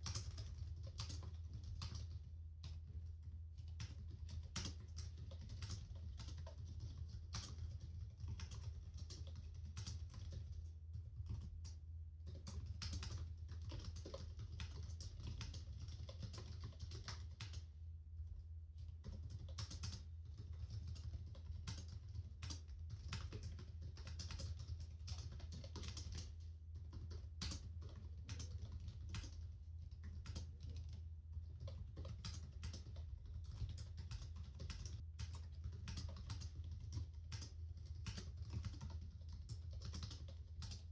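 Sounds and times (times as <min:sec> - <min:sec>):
laptop keyboard typing: 0:00.0 - 0:17.7, 0:18.8 - 0:40.9.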